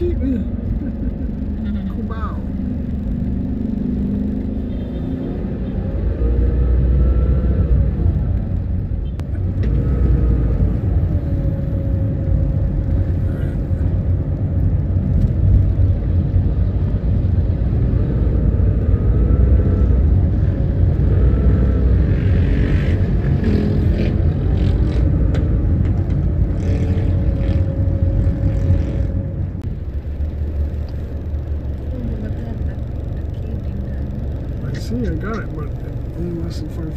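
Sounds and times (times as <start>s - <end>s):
car driving in traffic: 0.0s - 36.9s
surrounding vehicle engines: 0.0s - 36.9s.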